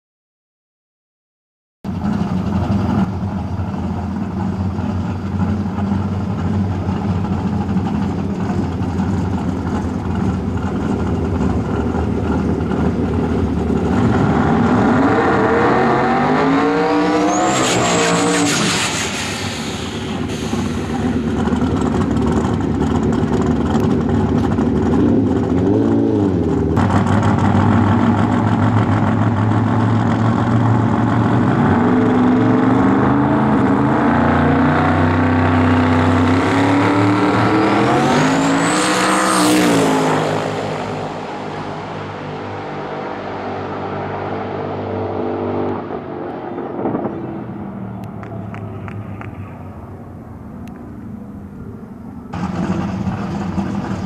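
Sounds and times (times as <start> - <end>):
car engine idling and revving: 1.9 - 54.0.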